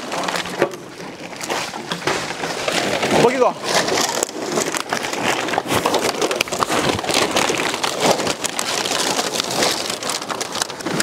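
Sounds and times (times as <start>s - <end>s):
plastic bottles crackling and clattering: 0.0s - 11.0s
plastic sacks dragged: 0.0s - 11.0s.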